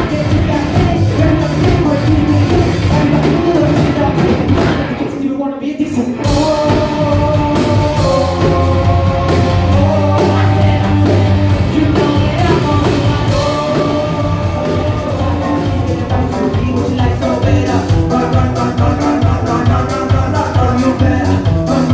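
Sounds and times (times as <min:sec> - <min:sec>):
live rock band playing: 0:00.0 - 0:05.2, 0:06.1 - 0:21.9.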